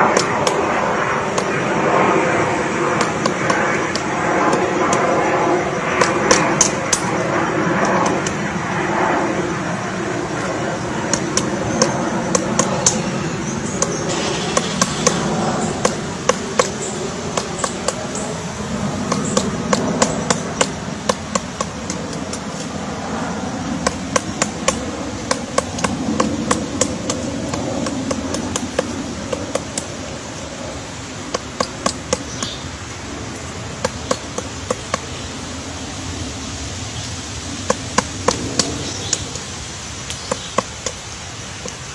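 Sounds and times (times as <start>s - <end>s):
woodpecker pecking at wood: 0.0s - 36.3s, 36.9s - 41.9s
steady background noise: 0.0s - 41.9s.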